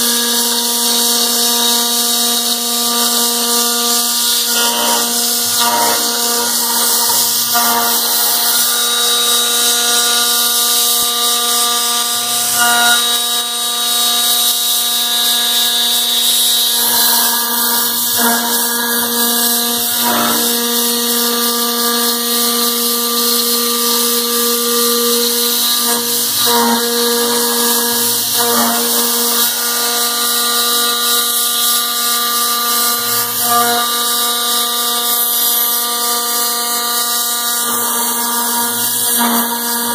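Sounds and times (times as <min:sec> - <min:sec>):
router spindle whining while cutting metal: 0:00.0 - 0:39.9.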